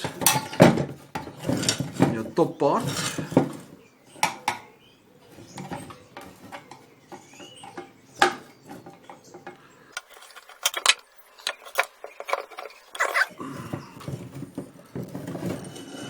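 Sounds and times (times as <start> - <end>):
metal lamp parts clinking: 0.0 - 4.8, 5.5 - 13.4, 14.1 - 16.0.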